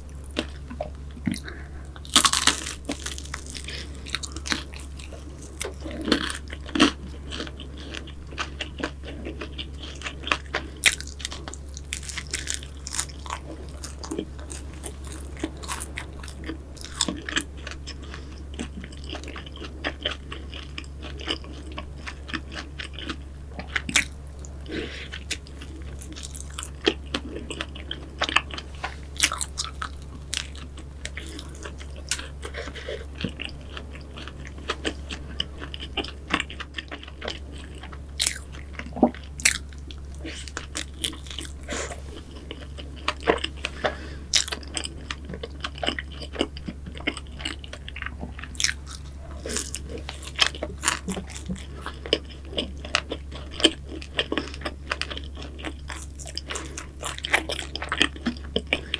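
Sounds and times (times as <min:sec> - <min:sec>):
crunchy bites and chewing: 0:00.0 - 0:58.9
steady low hum: 0:00.0 - 0:58.9
pastry crackling: 0:01.4 - 0:58.9.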